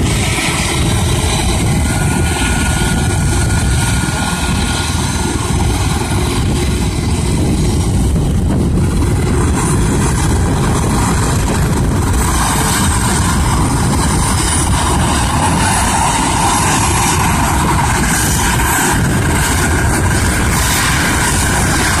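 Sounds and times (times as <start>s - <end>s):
faint turbine whine: 0.0s - 22.0s
helicopter turbines and rotor: 0.0s - 22.0s.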